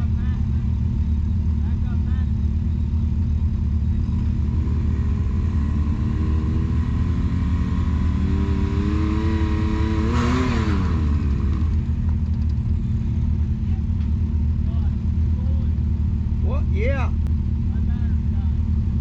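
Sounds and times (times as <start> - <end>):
utility vehicle engines rumbling: 0.0 - 19.0.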